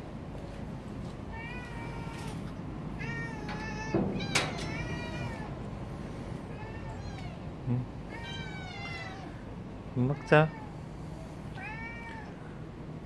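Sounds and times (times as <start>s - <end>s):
cats meowing: 1.3s - 12.7s.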